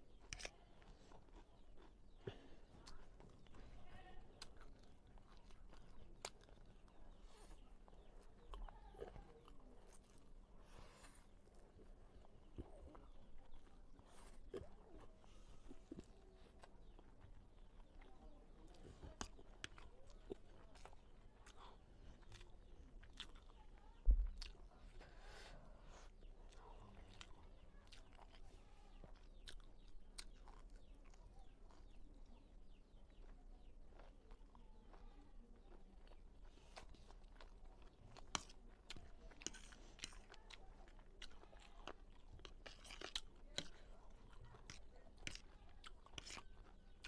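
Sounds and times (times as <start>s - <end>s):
close chewing of noodles: 0.0s - 47.0s.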